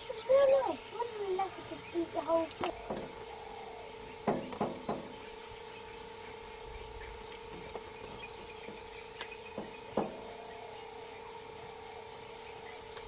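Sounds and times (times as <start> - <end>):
birds chirping: 0.0 - 13.0
low hum: 0.0 - 13.0.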